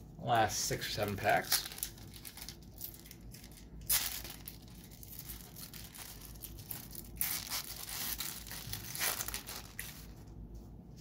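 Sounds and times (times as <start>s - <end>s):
wrapper crinkling: 0.9s - 10.3s
wrapper ripping: 1.0s - 10.3s.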